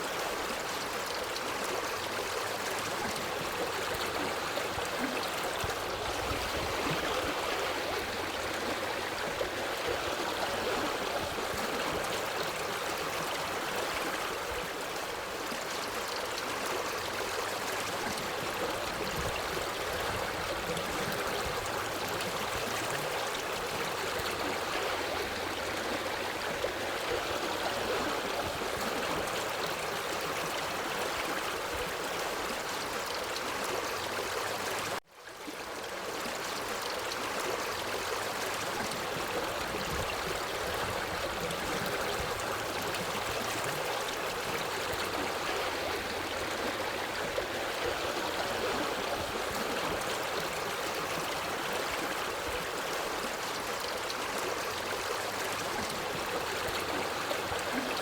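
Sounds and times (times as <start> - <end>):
forest stream running: 0.0 - 58.0.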